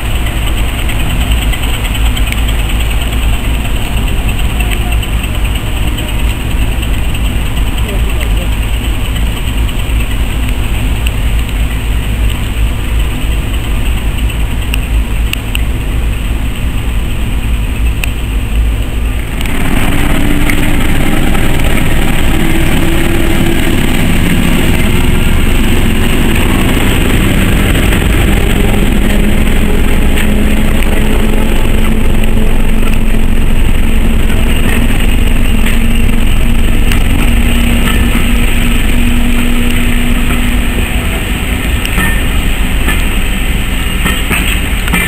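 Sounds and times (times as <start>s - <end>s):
diesel locomotive engine: 0.0s - 45.0s
low rumble: 0.0s - 45.0s
train running on rails: 0.0s - 45.0s.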